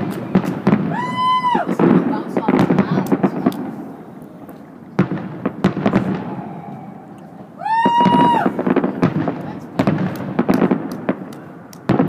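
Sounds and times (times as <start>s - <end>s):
distant fireworks bangs and pops: 0.0s - 12.0s.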